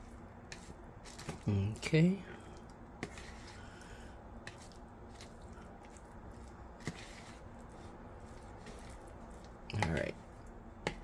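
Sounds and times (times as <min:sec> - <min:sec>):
food squishing: 0:00.0 - 0:11.0.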